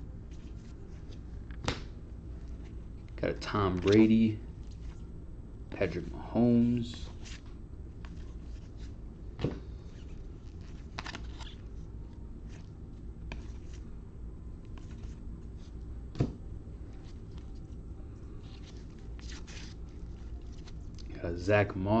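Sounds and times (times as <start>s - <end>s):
low steady hum: 0.0s - 22.0s
cards rustling and clicking: 0.3s - 5.0s, 6.9s - 13.9s, 14.6s - 17.8s, 18.4s - 21.2s.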